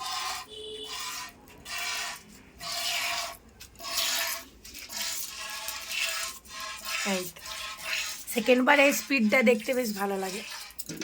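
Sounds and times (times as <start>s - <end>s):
milk squirting into a bucket: 0.0s - 11.0s.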